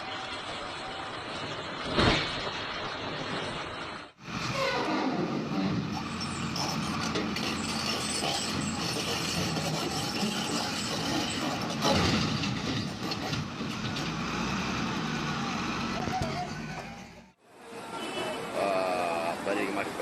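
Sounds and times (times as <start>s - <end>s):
heavy truck running: 0.0s - 17.4s.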